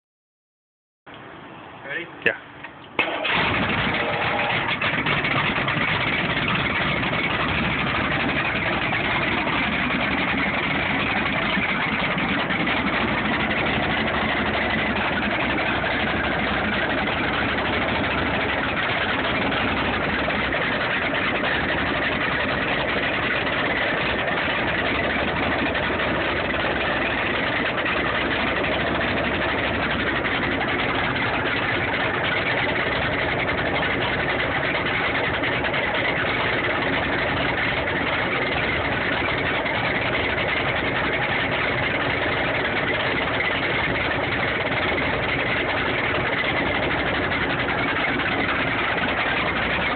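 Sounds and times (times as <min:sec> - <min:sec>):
boat engine running steadily: 0:01.1 - 0:49.9.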